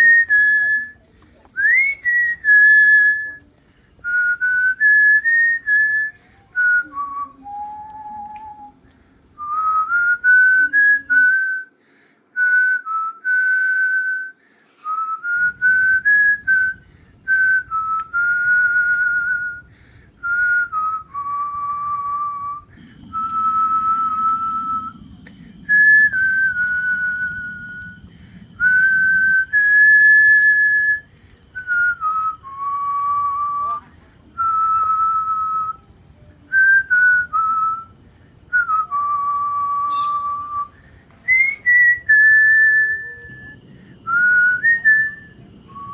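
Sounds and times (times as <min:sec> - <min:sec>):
person whistling a tune: 0:01.6 - 0:03.4, 0:04.0 - 0:08.8, 0:09.4 - 0:11.7, 0:12.4 - 0:35.9, 0:36.5 - 0:37.9, 0:38.5 - 0:45.9.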